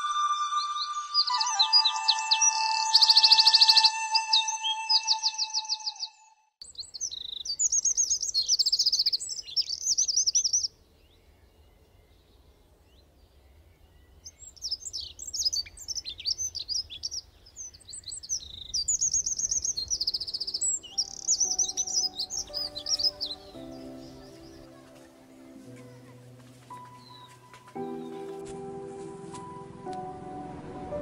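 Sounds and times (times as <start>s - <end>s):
songbirds chirping and trilling: 0.0s - 30.8s.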